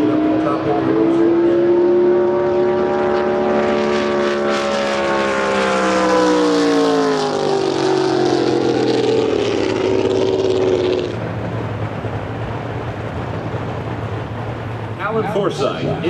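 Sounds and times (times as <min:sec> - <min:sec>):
racing boat engine: 0:00.0 - 0:16.0.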